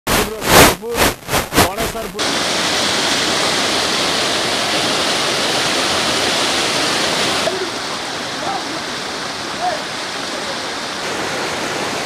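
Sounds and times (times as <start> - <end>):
floodwater rushing: 0.1 - 12.0.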